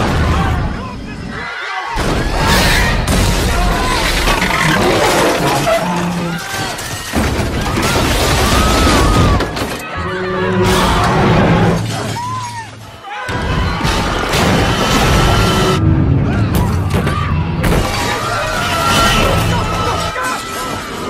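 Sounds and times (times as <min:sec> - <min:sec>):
crashing and shattering: 0:02.0 - 0:10.0, 0:10.7 - 0:15.8, 0:16.5 - 0:21.0.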